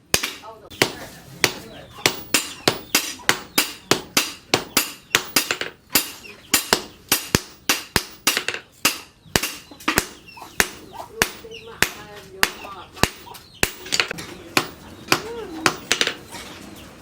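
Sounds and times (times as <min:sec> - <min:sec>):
hammer striking metal on anvil: 0:00.1 - 0:16.2.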